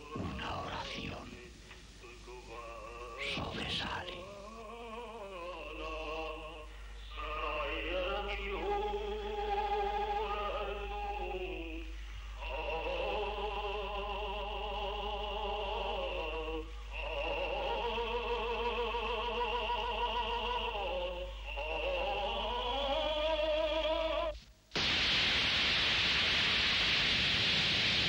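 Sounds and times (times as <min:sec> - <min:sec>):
person chanting: 0:00.0 - 0:11.8, 0:12.4 - 0:24.3.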